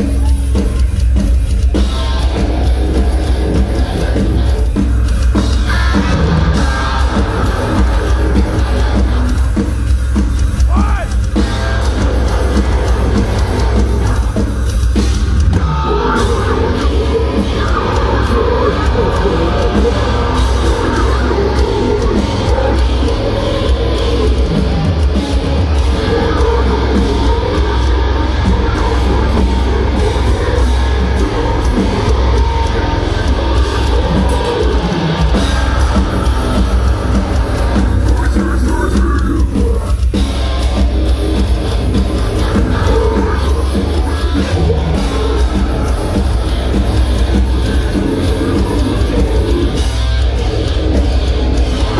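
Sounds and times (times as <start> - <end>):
distorted guitars: 0.0 - 51.9
drum kit: 0.0 - 51.9.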